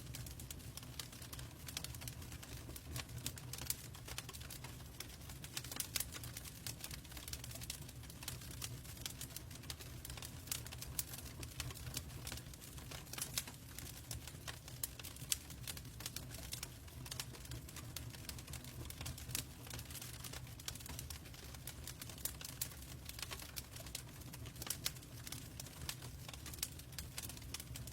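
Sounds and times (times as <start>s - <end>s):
logs crackling in fireplace: 0.0s - 27.9s.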